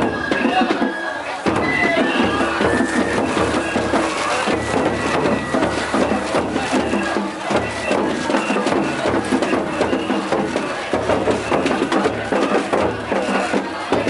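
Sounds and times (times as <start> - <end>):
crowd voices: 0.0 - 14.0
drums in running rhythm: 0.0 - 14.0.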